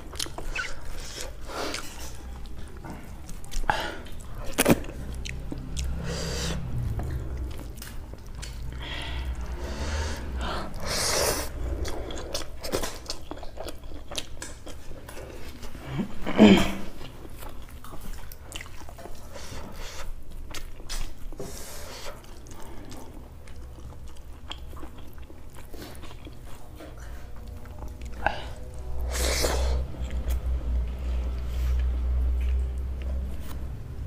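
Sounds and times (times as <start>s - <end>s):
person chewing with wet mouth sounds: 0.0s - 34.0s.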